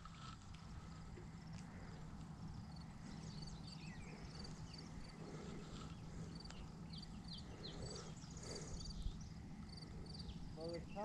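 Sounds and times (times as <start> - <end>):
low steady hum: 0.0 - 11.0
birds chirping: 0.6 - 11.0.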